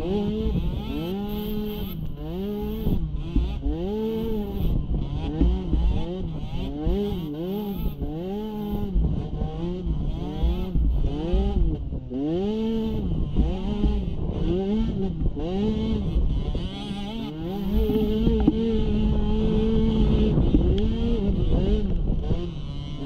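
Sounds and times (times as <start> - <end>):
small atv engine revving: 0.0 - 23.0.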